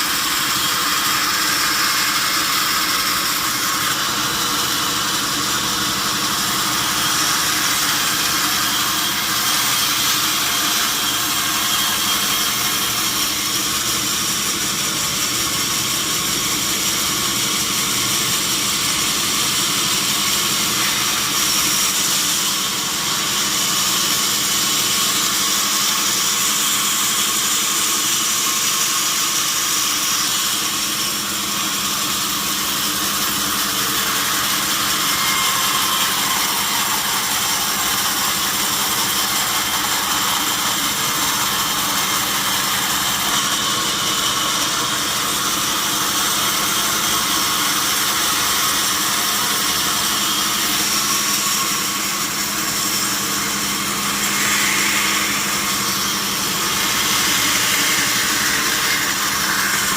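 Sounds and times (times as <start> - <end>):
sawmill machinery droning: 0.0 - 59.9.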